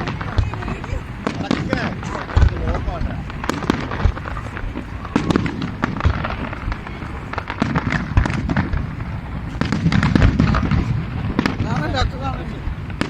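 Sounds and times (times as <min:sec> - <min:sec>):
deep fireworks booms: 0:00.0 - 0:13.0
fireworks bangs and crackles: 0:00.0 - 0:13.0.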